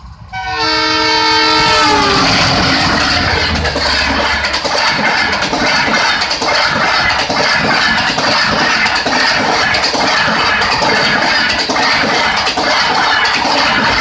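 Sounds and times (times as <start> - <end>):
train passing at speed: 0.0 - 14.0
wheels clacking over rail joints: 1.7 - 14.0.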